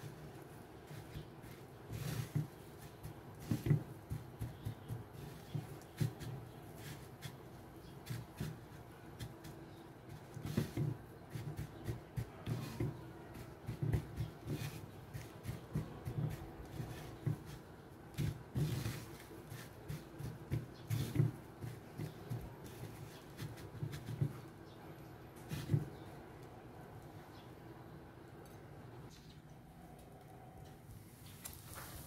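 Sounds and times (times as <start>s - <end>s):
crumbly rustling and crackle: 0.0s - 27.2s, 30.0s - 32.0s.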